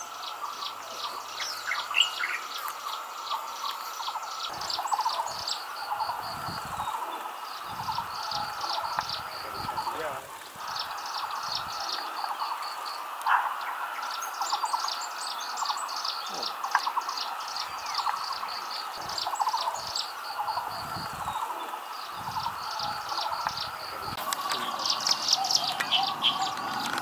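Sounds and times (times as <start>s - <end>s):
lower trilled bird phrases: 0.0s - 27.0s.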